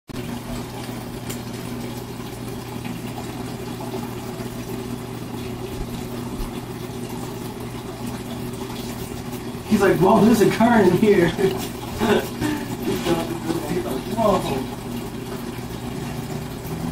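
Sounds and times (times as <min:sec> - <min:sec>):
water pump electric hum: 0:00.1 - 0:16.9.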